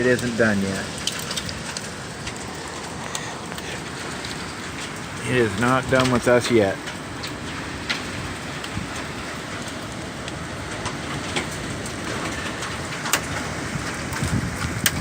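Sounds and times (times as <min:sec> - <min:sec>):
hailstones ticking: 0:00.0 - 0:15.0
heavy rain falling: 0:00.0 - 0:15.0.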